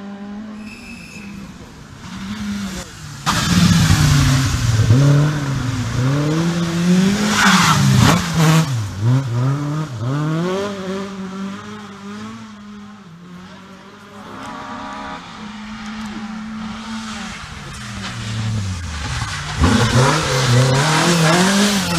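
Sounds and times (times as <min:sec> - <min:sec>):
rally car engine revving: 0:01.4 - 0:21.9.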